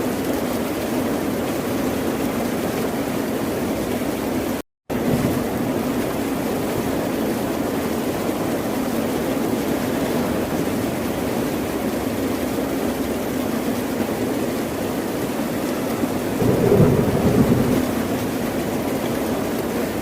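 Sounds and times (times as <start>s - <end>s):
ocean waves washing: 3.6s - 20.0s.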